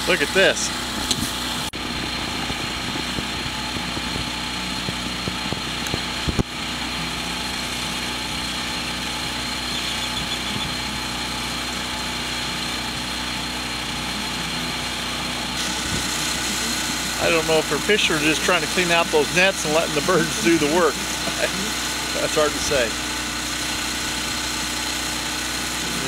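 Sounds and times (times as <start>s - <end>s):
portable generator running: 0.0s - 26.0s.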